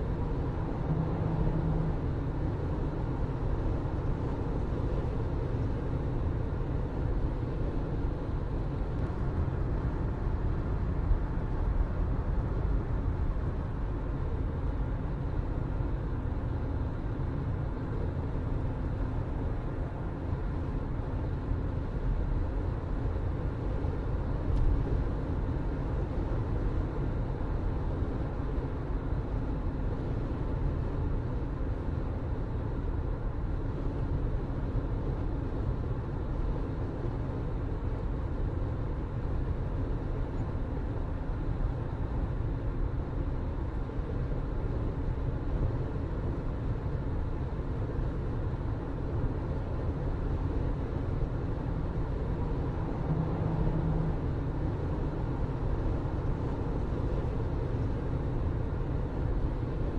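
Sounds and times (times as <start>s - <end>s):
vehicle rumble: 0.0s - 59.9s.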